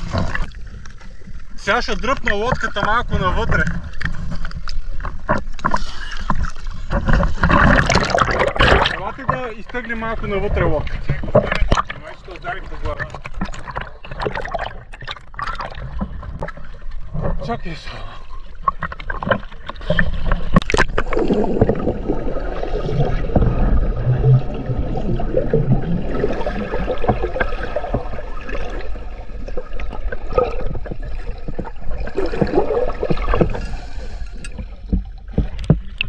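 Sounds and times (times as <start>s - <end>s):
water splashing and sloshing: 0.0s - 36.0s.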